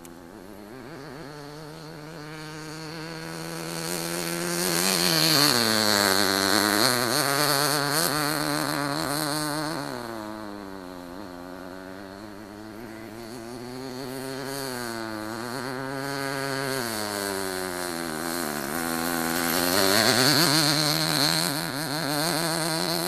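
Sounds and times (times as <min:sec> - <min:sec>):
model car engine running: 0:00.0 - 0:23.0.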